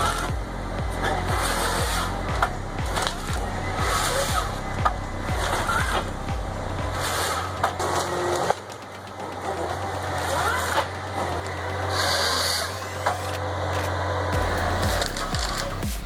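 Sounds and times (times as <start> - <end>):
rising whine: 0.0 - 13.4
engine humming: 0.0 - 16.0.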